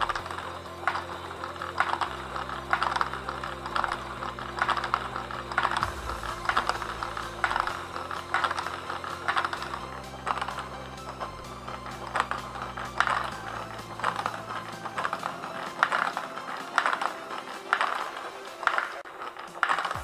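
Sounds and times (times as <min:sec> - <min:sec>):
balls knocking through mechanism: 0:00.0 - 0:20.0
plastic gears clattering: 0:00.0 - 0:20.0.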